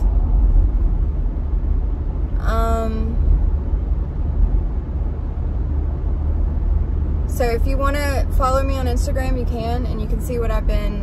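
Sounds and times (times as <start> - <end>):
vehicle cabin rumble: 0.0 - 11.0.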